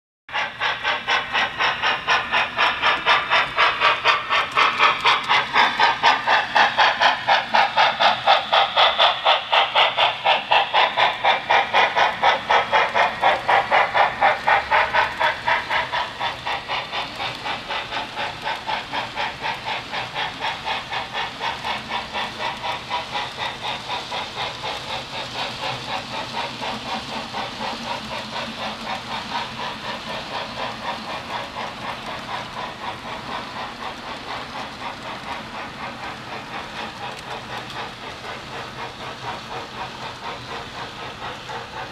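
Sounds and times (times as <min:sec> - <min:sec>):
steam locomotive chuffing with hiss: 0:00.3 - 0:41.9.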